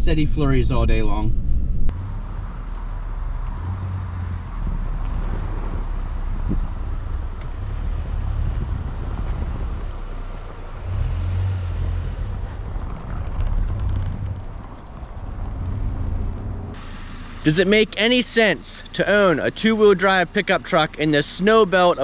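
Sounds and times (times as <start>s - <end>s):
pickup engine and road rumble: 0.0s - 22.0s.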